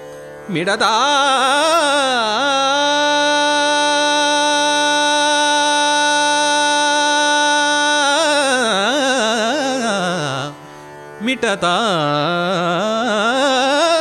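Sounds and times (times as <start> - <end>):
man singing: 0.5 - 10.6, 11.2 - 14.0.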